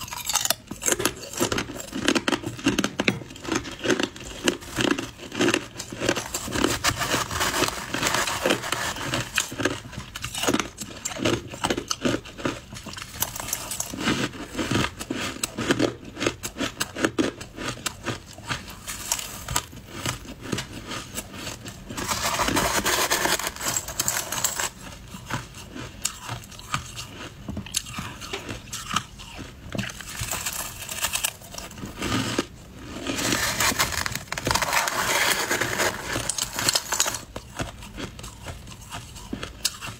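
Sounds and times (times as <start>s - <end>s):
chewing shaved ice crunching: 0.0s - 39.9s.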